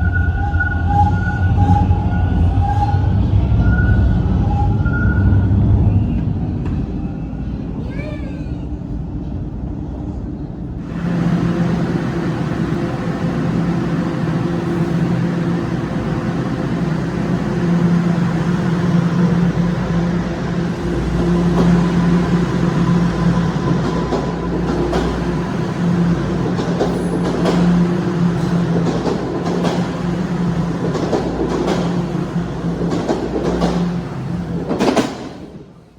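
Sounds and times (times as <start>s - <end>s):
station noise: 0.0s - 7.4s, 10.8s - 35.4s
subway train rumbling: 0.0s - 35.9s.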